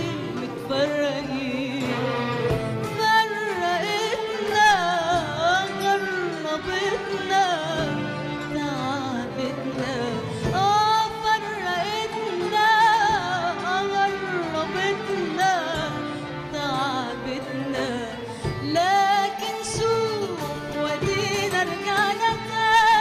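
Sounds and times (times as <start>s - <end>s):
orchestra with violins: 0.0s - 23.0s
woman singing: 0.0s - 23.0s.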